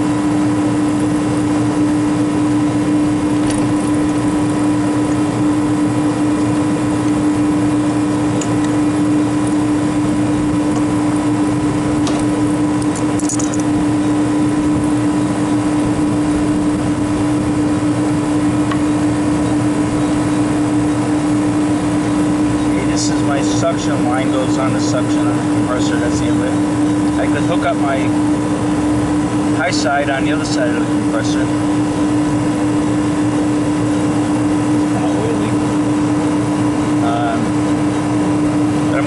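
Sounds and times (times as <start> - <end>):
condensing unit humming: 0.0 - 39.0.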